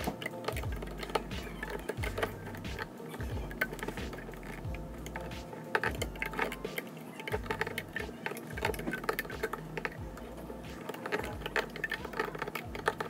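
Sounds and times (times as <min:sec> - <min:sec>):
hook and bands clicking on pegs: 0:00.0 - 0:13.0.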